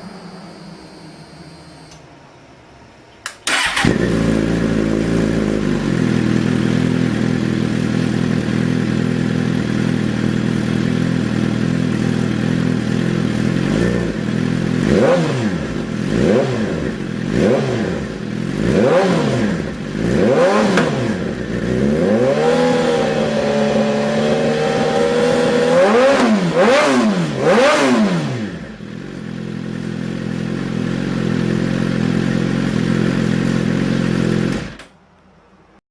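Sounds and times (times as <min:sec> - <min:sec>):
engine idling and revving: 0:03.5 - 0:34.9.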